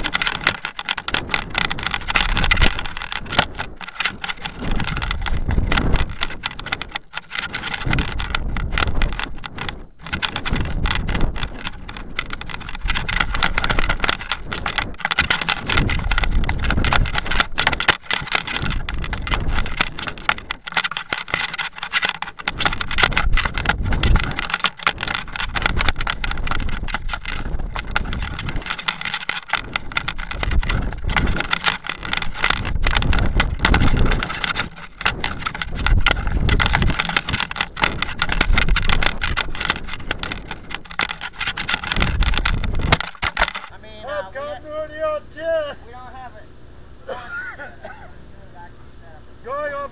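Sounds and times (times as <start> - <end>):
clicks and rattles: 0.0 - 43.8
wind buffeting microphone: 0.0 - 45.6.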